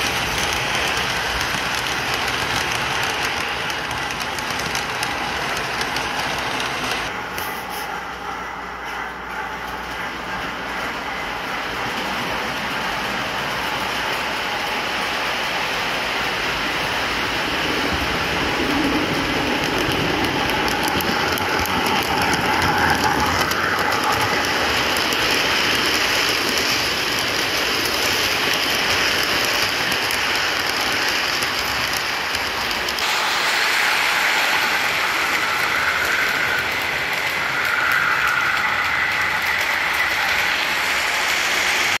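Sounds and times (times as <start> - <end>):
model train wheels rumbling: 0.0 - 42.0.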